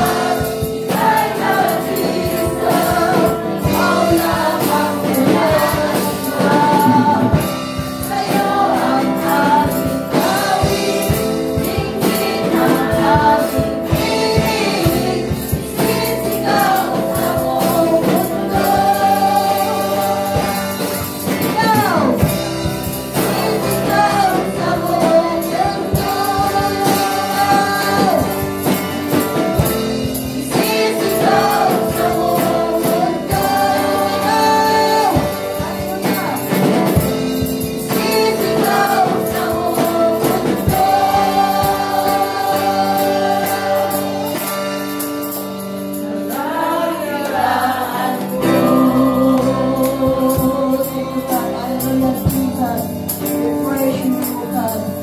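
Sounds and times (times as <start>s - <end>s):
women singing together: 0.0s - 44.7s, 46.1s - 55.0s
drums: 0.0s - 55.0s
electric guitar: 0.0s - 55.0s.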